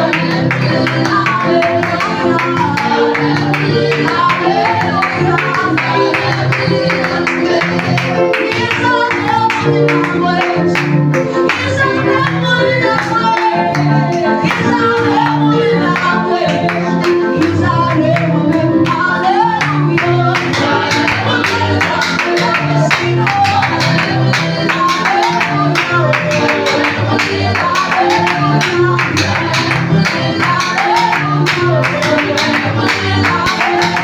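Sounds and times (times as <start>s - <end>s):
person singing: 0.0s - 34.0s
worship band music: 0.0s - 34.0s.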